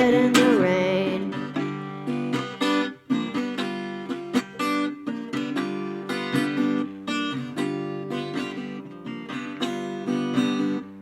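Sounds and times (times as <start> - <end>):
acoustic blues guitar: 0.0 - 11.0.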